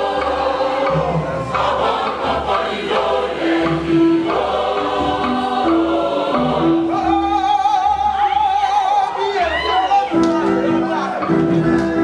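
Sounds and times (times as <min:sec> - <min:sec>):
choir singing gospel: 0:00.0 - 0:12.0.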